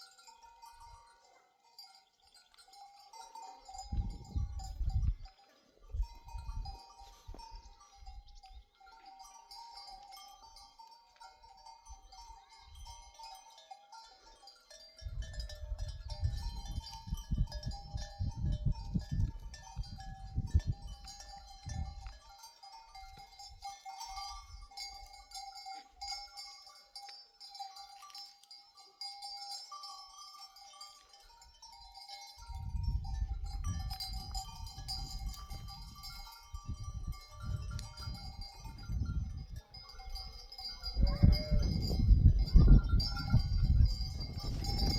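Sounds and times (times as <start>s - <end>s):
sheep bells clinking: 0.0s - 44.9s.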